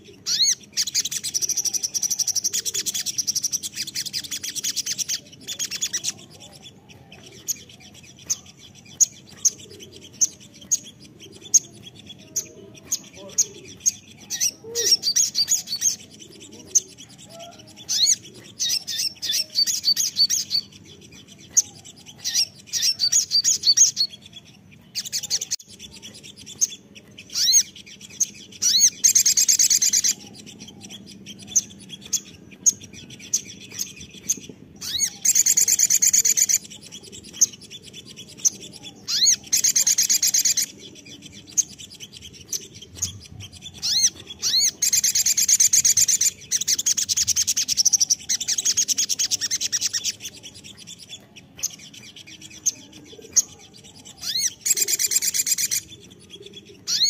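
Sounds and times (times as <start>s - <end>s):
bird twittering trills: 0.0s - 57.0s.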